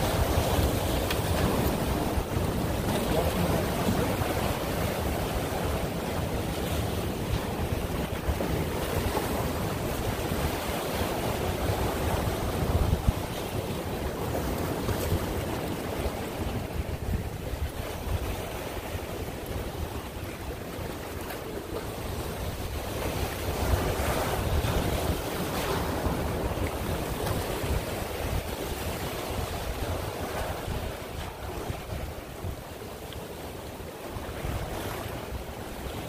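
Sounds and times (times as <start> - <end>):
surf washing against rocks: 0.0 - 36.0
wind buffeting microphone: 0.0 - 36.0.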